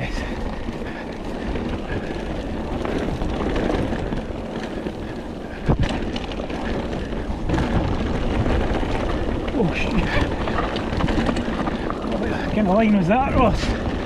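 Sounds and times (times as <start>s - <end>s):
bike tyres rattling over dirt: 0.0s - 14.0s.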